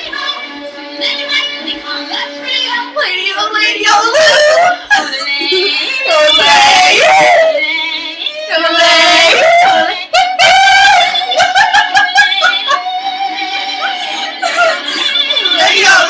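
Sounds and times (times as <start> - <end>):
yodeled singing with music: 0.0 - 16.0.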